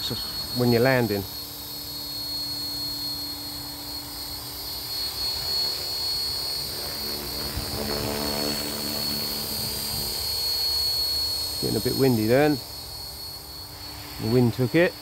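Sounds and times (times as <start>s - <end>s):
model helicopter motor whine: 0.0s - 15.0s
rotor blades buzzing: 0.0s - 15.0s.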